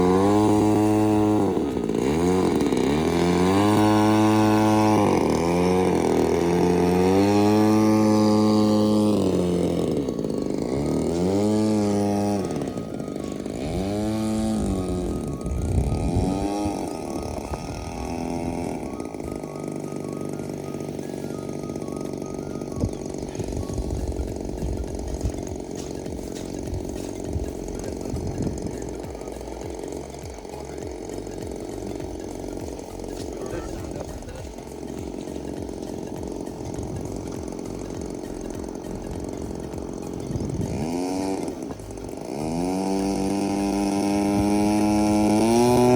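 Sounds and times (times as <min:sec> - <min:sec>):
model airplane engine: 0:00.0 - 0:45.9.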